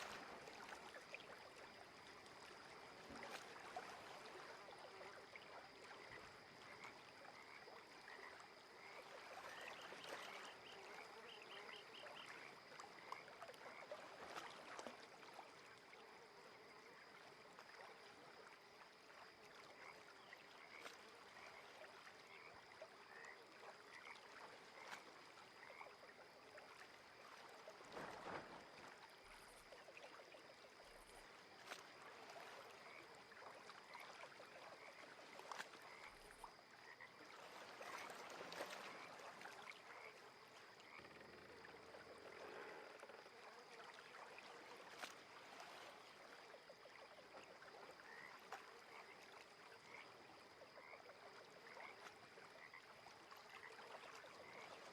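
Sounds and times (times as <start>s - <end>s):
water lapping and splashing: 0.0s - 54.9s
frogs chirping: 0.1s - 14.6s, 15.6s - 27.4s, 29.1s - 54.9s.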